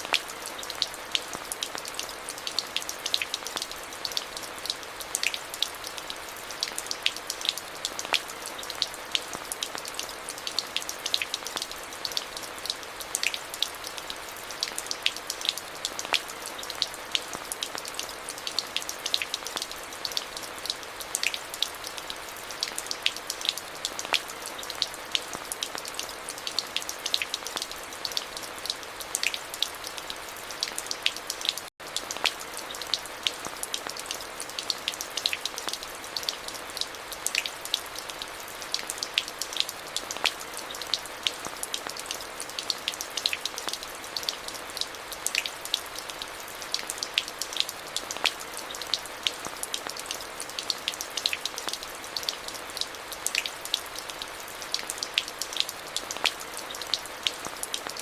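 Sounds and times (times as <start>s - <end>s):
rain drops ticking on surface: 0.0s - 58.0s.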